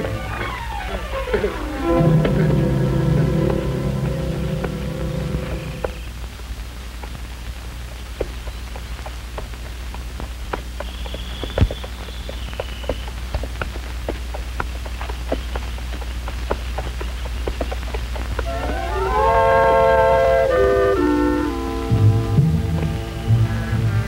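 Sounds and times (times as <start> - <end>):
film soundtrack low hum: 0.0 - 24.0.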